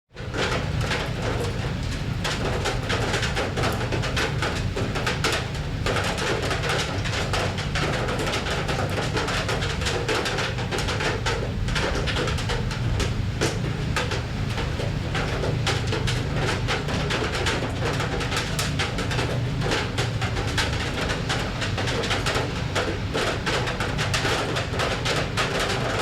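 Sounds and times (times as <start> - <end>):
rain on metal surface: 0.1 - 26.0.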